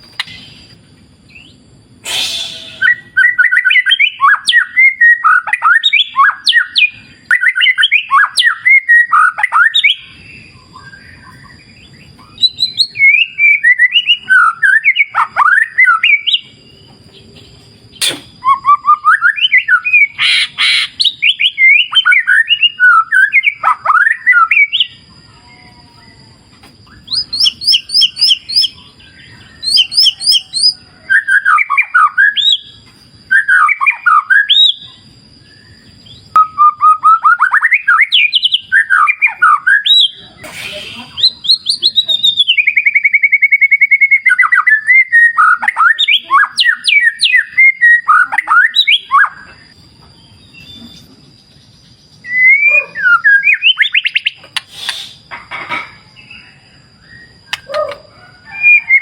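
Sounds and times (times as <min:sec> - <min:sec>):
bird singing whistled phrases: 0:00.2 - 0:16.5, 0:17.9 - 0:49.7, 0:52.2 - 0:55.2, 0:56.3 - 0:59.0.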